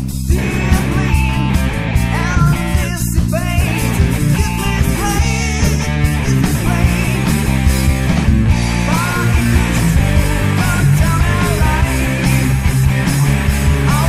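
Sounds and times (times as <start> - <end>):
bass guitar: 0.0 - 14.0
drums: 0.0 - 14.0
electric guitars: 0.0 - 14.0.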